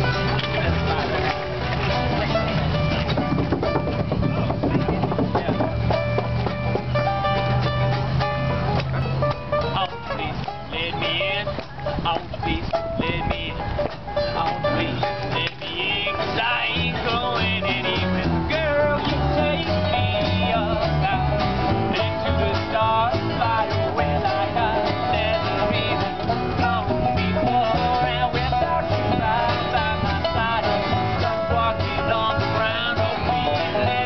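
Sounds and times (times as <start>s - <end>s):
acoustic guitars: 0.0s - 34.0s
banjo: 0.0s - 34.0s
fiddle: 0.0s - 34.0s
upright bass: 0.0s - 34.0s.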